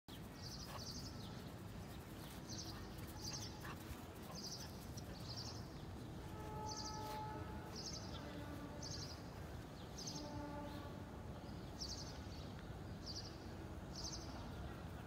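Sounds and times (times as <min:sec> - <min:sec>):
low steady background noise: 0:00.1 - 0:15.0.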